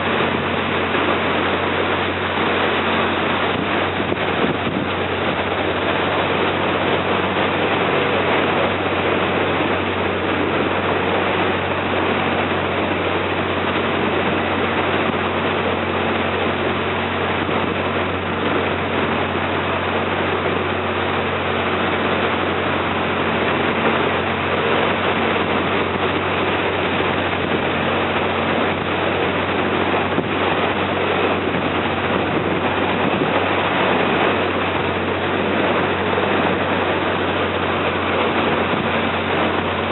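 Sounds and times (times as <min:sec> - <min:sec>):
boat engine humming: 0:00.0 - 0:39.9
water washing: 0:00.0 - 0:39.9
wind noise: 0:00.0 - 0:39.9.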